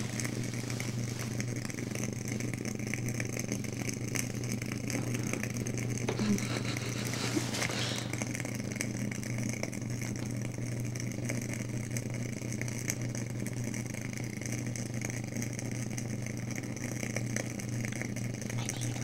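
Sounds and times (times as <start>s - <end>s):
humidifier humming: 0.0s - 19.0s.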